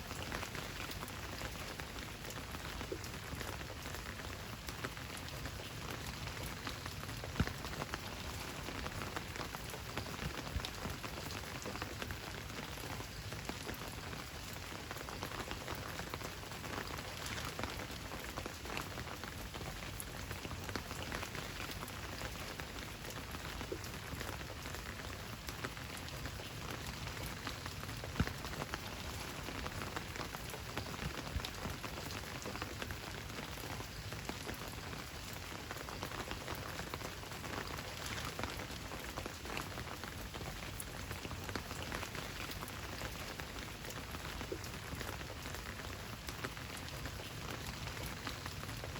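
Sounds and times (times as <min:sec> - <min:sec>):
steady rain patter: 0:00.0 - 0:48.9.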